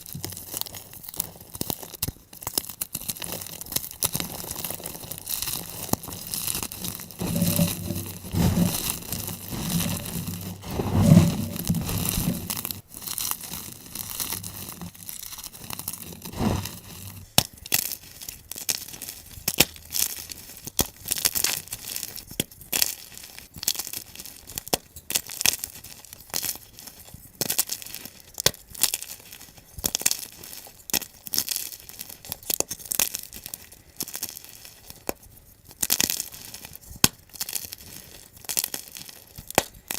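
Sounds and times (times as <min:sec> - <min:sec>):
chalk crunching and crackling: 0:00.0 - 0:28.2, 0:35.9 - 0:39.9.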